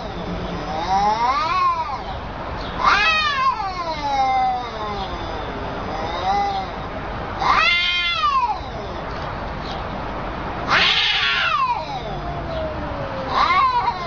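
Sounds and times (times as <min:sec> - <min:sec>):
cat yowling: 0:00.0 - 0:02.2, 0:02.8 - 0:09.2, 0:10.6 - 0:14.0.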